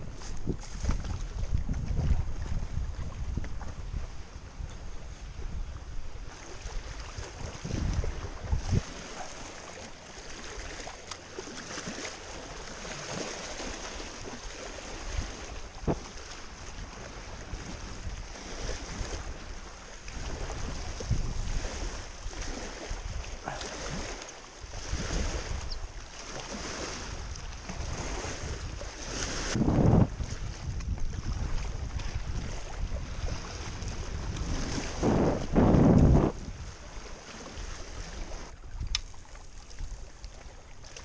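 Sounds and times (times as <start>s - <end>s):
wind buffeting microphone: 0.0s - 9.5s, 13.1s - 40.1s
waves lapping on rocky shore: 5.2s - 41.0s.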